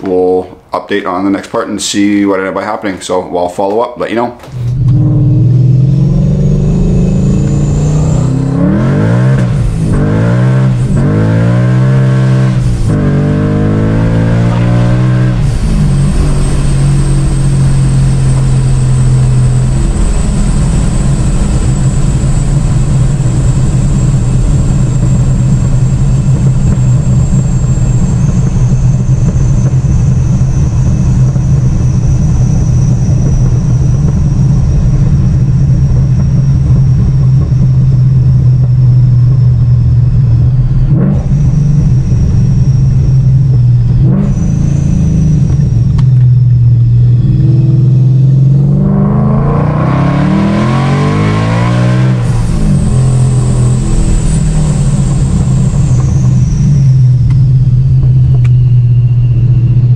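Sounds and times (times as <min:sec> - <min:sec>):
faint high whine: 0:04.4 - 0:59.9
car engine revving: 0:04.5 - 0:59.9.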